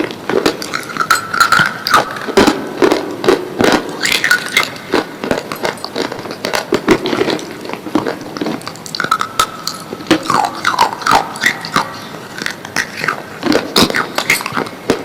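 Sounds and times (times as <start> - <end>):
crunching of chewed pencils: 0.0 - 15.0.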